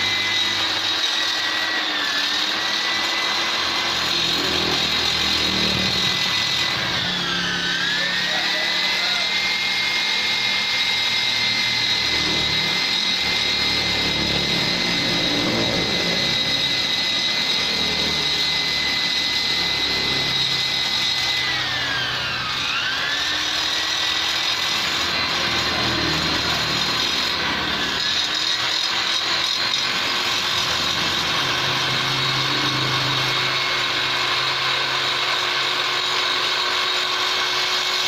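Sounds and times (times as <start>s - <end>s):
rotary grinder high whine: 0.0s - 38.0s.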